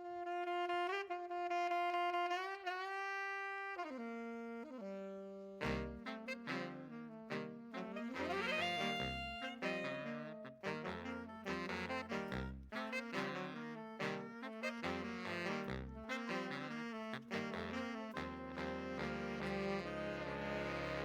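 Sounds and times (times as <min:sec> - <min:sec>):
saxophone lead: 0:00.0 - 0:21.0.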